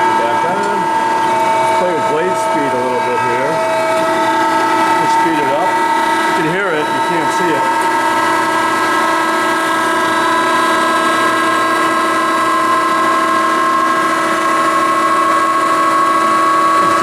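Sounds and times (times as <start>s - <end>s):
band saw whining: 0.0s - 17.0s.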